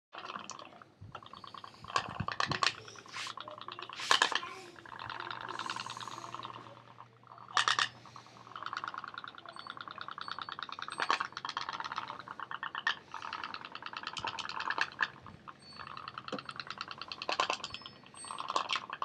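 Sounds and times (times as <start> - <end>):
toy steam engine putting: 0.2 - 19.0.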